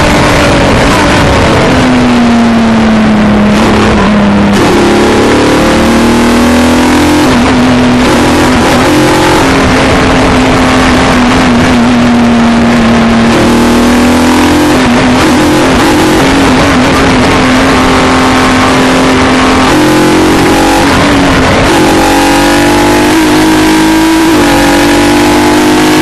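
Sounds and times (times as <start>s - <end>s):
heavy rush of noise: 0.0s - 26.0s
race car engine at full throttle: 0.0s - 26.0s.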